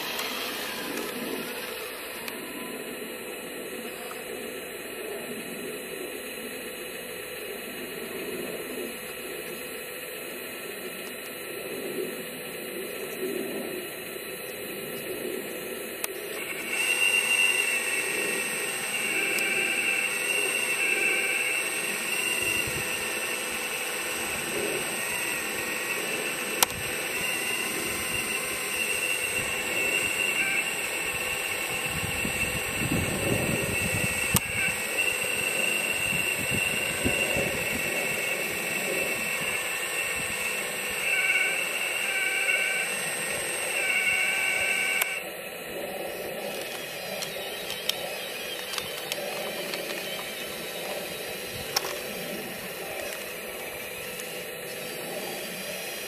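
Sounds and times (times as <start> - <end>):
hydraulic pump whining: 0.0 - 56.0.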